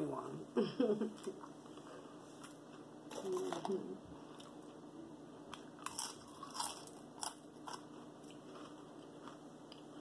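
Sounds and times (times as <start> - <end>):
person chewing crunchy fries: 1.2 - 10.0.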